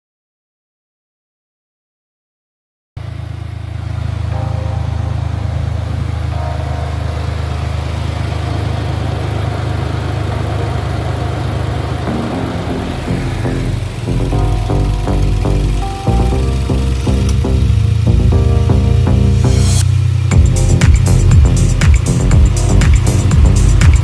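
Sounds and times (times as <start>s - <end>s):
car engine humming: 3.0s - 24.0s.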